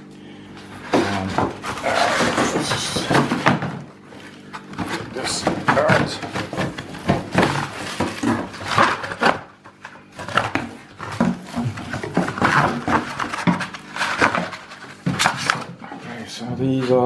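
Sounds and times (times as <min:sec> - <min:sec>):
cardboard packaging rustling: 0:00.5 - 0:17.0
plastic parts knocking and clattering: 0:00.8 - 0:16.0.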